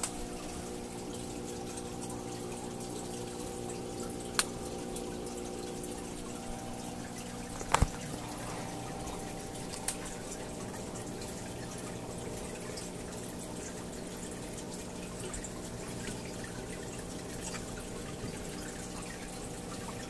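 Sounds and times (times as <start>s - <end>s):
filter water trickling and dripping: 0.0s - 20.0s
steady hum: 0.0s - 20.0s.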